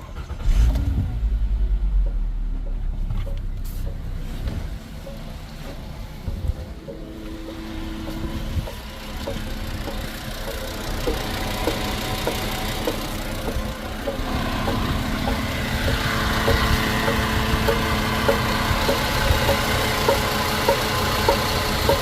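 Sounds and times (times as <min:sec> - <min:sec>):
car engine running: 0:00.0 - 0:22.0
road noise: 0:00.0 - 0:22.0.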